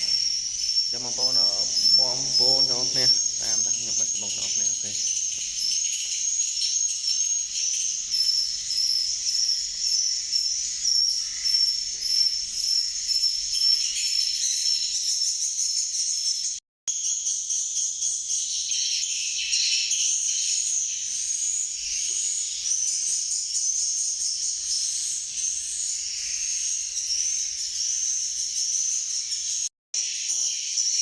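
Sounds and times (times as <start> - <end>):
swiftlets chirping and twittering: 0.0 - 31.0.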